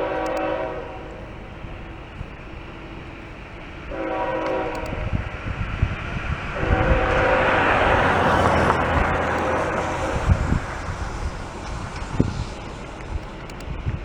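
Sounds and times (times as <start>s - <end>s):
locomotive air horn blasts: 0.0s - 2.1s, 3.8s - 13.4s
train rumbling: 0.0s - 14.0s.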